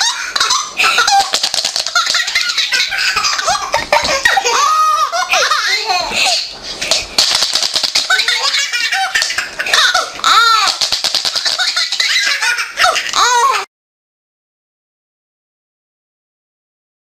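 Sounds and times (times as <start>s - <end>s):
baby laughing: 0.0s - 13.7s.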